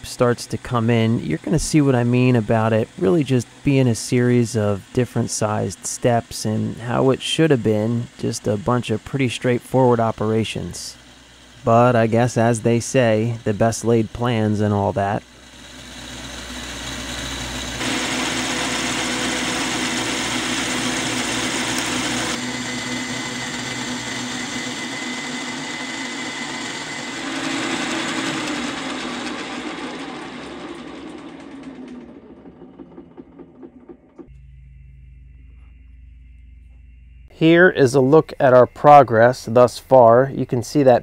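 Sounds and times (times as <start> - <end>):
milling machine cutting metal: 0.0 - 34.4.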